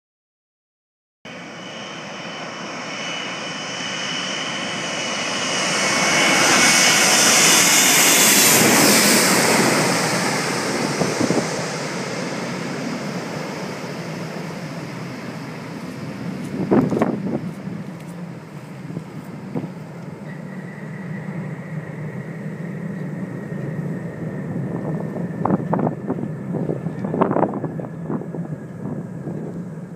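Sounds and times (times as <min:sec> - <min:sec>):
jet plane passing overhead: 0:01.3 - 0:29.9.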